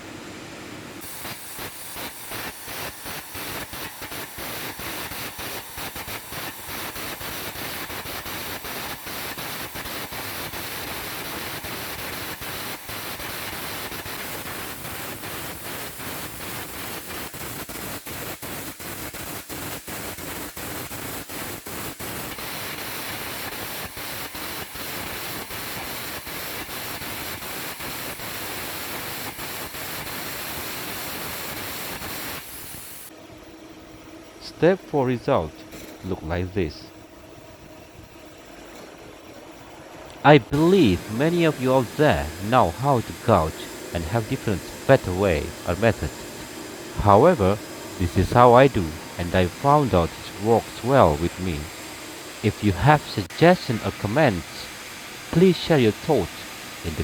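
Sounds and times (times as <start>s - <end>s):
arc gouging hiss and crackle: 1.0s - 33.1s, 40.0s - 57.0s.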